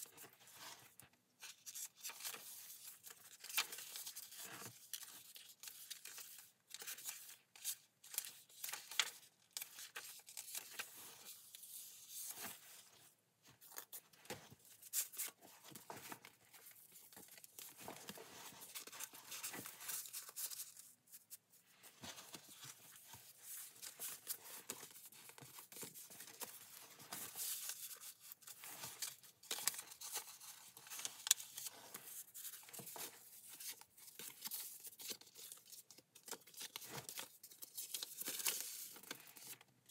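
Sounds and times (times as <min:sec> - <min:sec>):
paper pages rustling: 0:00.0 - 0:39.7.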